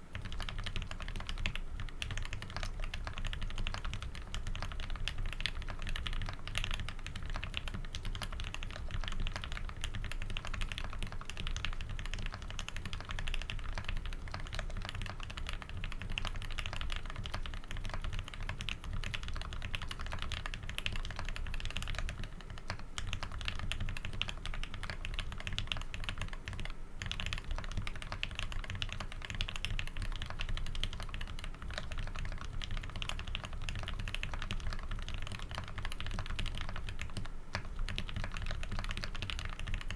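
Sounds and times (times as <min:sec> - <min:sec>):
keyboard keystroke clacks: 0:00.2 - 0:39.9.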